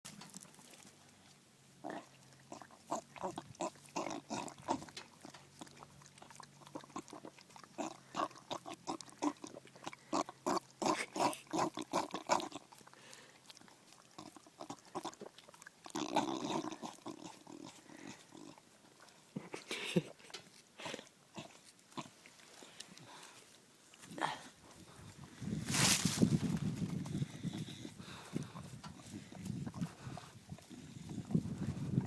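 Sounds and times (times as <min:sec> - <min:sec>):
dog eating noisily: 0:01.8 - 0:24.0, 0:26.9 - 0:32.0.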